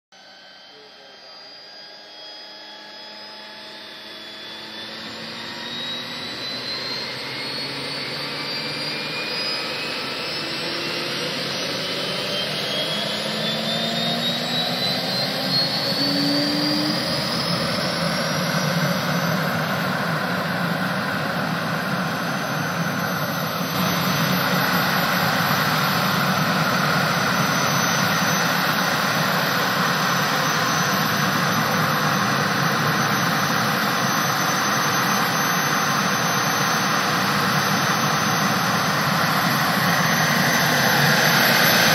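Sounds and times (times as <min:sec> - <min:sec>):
turbine engine whine: 0:00.2 - 0:41.9.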